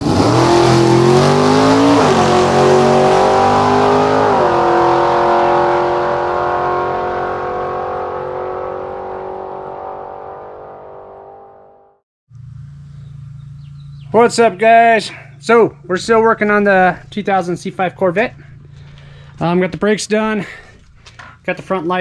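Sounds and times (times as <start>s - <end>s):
car engine accelerating: 0.0s - 21.4s.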